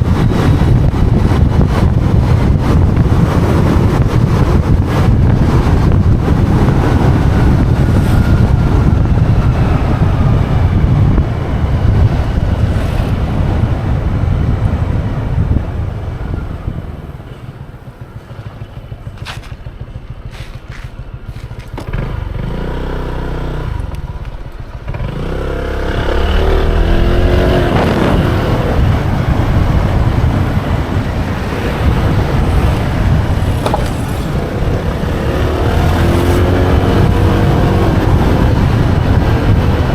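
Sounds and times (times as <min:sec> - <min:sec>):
motorbike engine: 0:00.0 - 0:39.9
wind rushing over microphone: 0:00.0 - 0:39.9.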